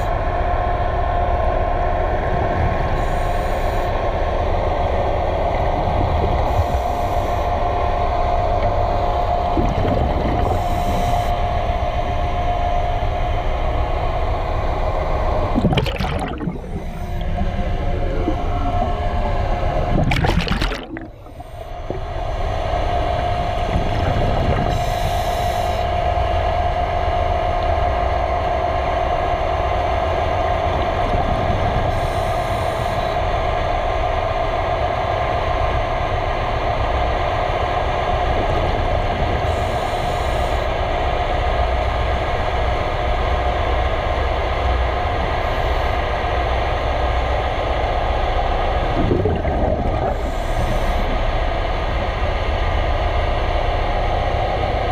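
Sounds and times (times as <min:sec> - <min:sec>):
underwater machinery hum: 0:00.0 - 0:54.9.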